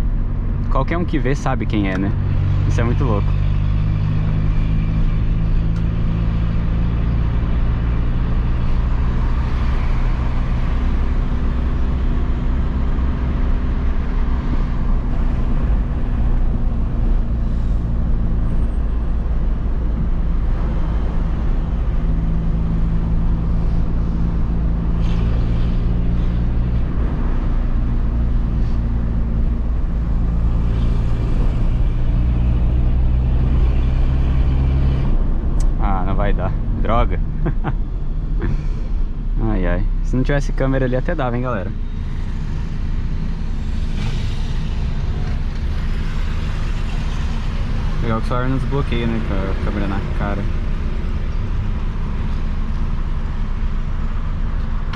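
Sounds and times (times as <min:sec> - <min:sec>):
car engine droning: 0:00.0 - 0:54.9.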